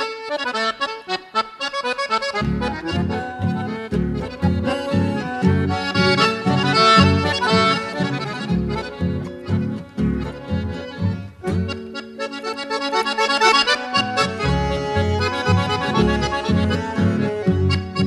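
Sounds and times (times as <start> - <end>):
bandoneon staccato melody: 0.0 - 18.0
low rhythmic accompaniment: 1.9 - 18.0.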